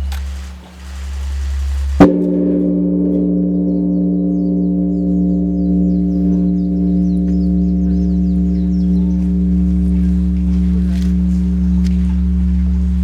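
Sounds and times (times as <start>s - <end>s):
large temple bell ringing: 1.4s - 13.0s.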